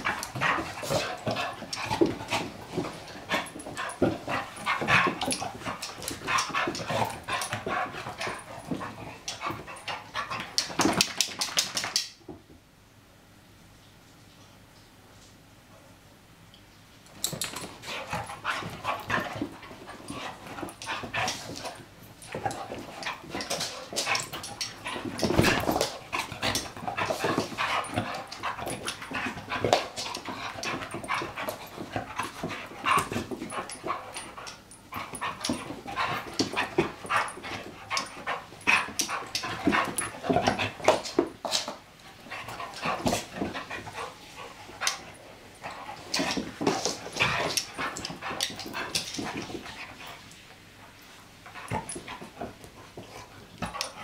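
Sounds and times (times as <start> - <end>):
dogs growling while playing: 0.0 - 11.0, 17.4 - 50.2.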